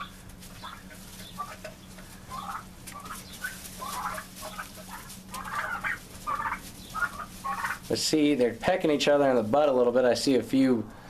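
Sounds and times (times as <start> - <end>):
turkeys clucking: 0.0 - 10.2.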